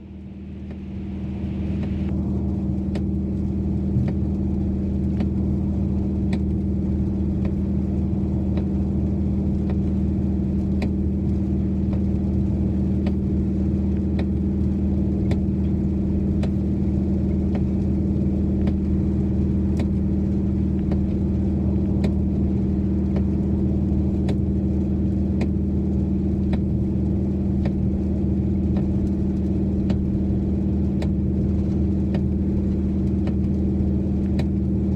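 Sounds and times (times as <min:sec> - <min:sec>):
road noise: 0:00.0 - 0:34.6
car engine droning: 0:00.0 - 0:34.9
rain on car: 0:00.0 - 0:34.9.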